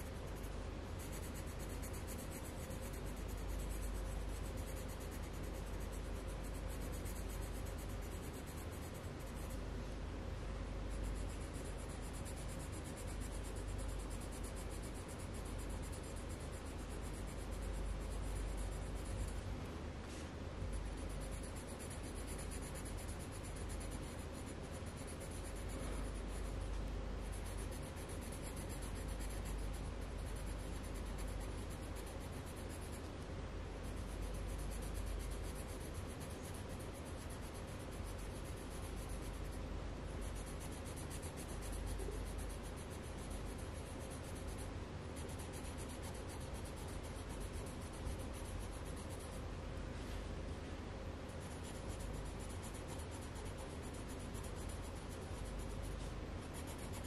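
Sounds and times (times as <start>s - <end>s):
pencil scratching on paper: 0.0s - 9.7s, 10.8s - 49.5s, 51.2s - 57.0s.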